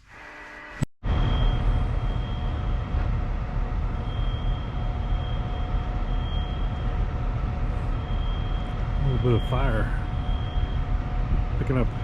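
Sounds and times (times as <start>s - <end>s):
faint high whine: 0.0s - 12.0s
truck diesel engine rumbling: 1.2s - 12.0s.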